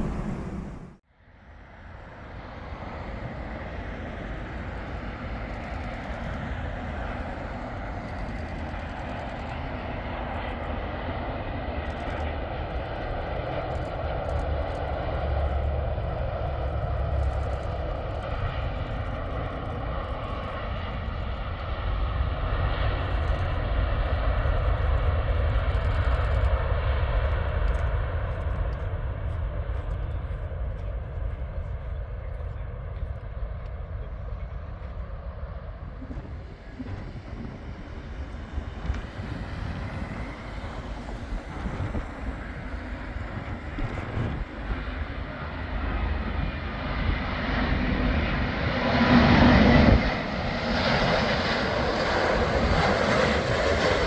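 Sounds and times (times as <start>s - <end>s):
jet engine rumble with whine: 0.0s - 54.0s.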